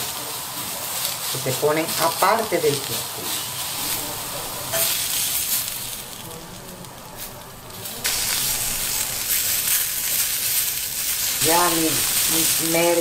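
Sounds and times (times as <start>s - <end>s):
sausages sizzling on a grill pan: 0.0s - 13.0s.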